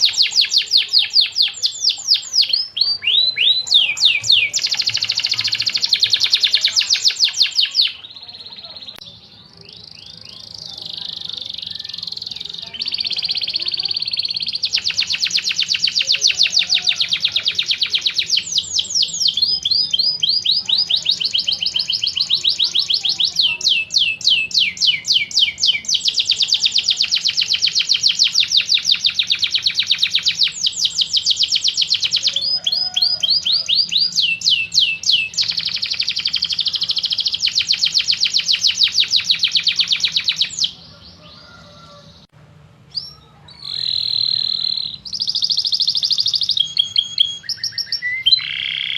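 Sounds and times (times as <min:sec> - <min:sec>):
canary singing trills: 0:00.0 - 0:42.3, 0:42.9 - 0:48.9.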